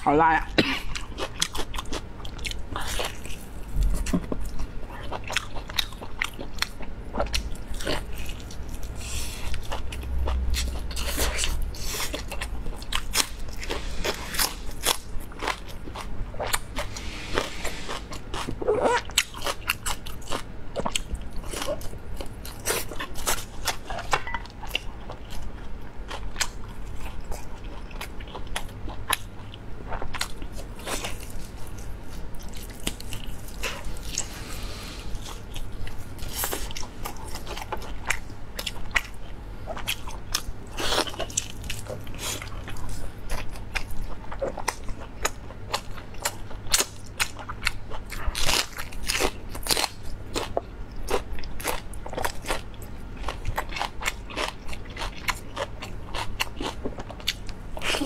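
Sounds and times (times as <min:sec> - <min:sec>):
person chewing crunchy food: 0:00.7 - 0:58.0.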